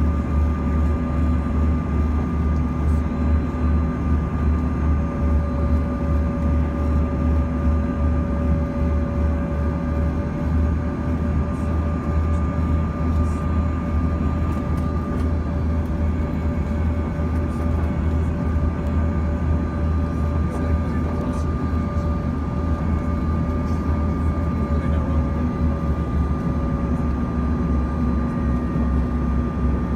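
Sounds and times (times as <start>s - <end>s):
jet engines droning: 0.0s - 29.9s.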